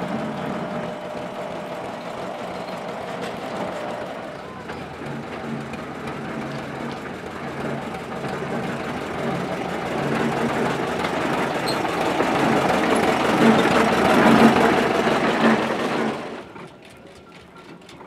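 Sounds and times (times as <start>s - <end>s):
diesel locomotive engine running: 0.0s - 18.0s
rapid mechanical ticking of engine: 0.0s - 18.0s.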